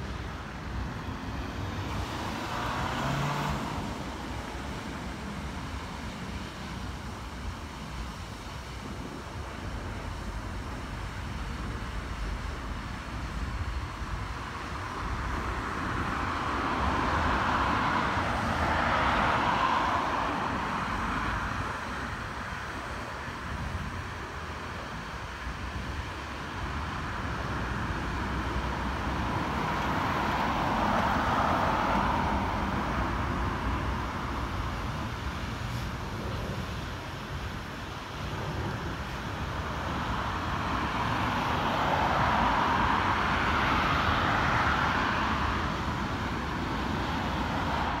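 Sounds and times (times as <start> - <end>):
road traffic hiss and rumble: 0.0 - 48.0.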